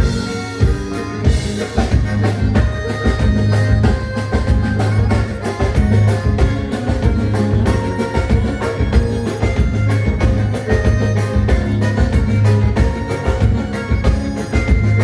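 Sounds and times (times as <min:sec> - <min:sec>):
dance band playing: 0:00.0 - 0:15.0
drum kit beat: 0:00.0 - 0:15.0.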